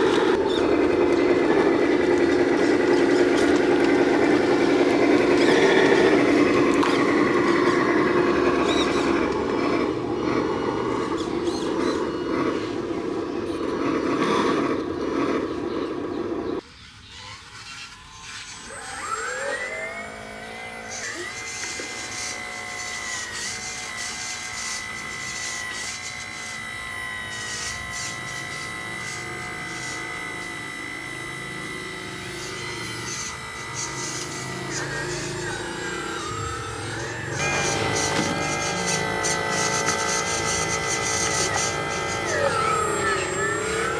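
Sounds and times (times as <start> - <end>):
electric motor and gears droning: 0.0 - 43.9
high-pitched motor whine: 0.0 - 43.9.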